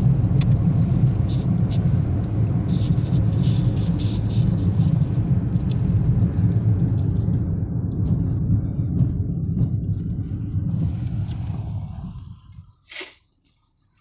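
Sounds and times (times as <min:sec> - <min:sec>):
loud low rumble with hiss: 0:00.0 - 0:13.0.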